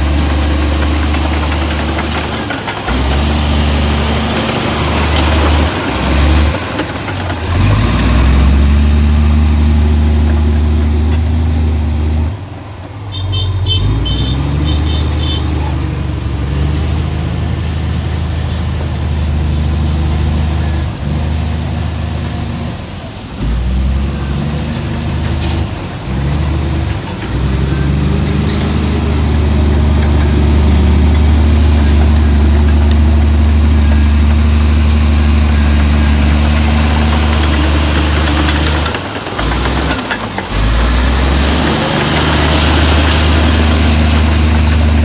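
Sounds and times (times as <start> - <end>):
heavy diesel engine droning: 0.0 - 45.0.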